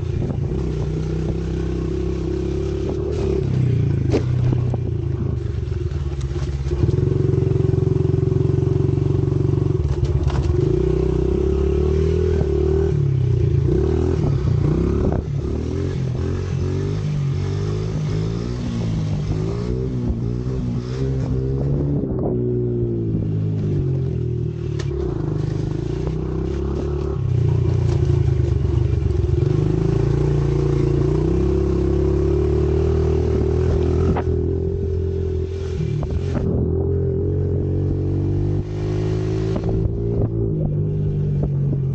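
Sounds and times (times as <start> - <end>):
motorbike engine revving: 0.0 - 41.9.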